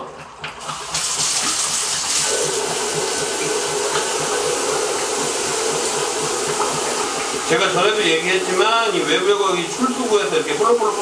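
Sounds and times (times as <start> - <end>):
shower head spraying into bucket: 0.9 - 11.0.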